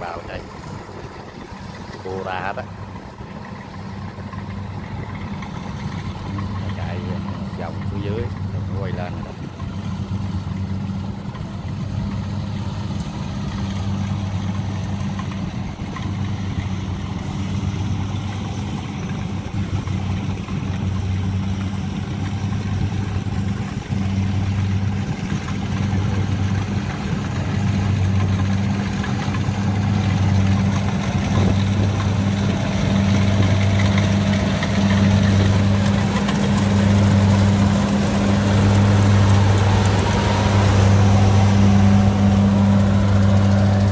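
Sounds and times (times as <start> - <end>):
combine harvester diesel drone: 0.0 - 43.9.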